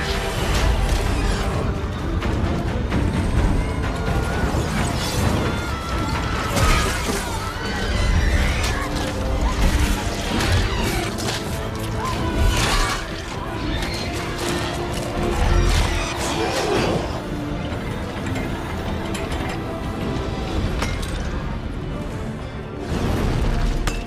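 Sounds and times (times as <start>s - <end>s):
orchestral score: 0.0s - 24.0s.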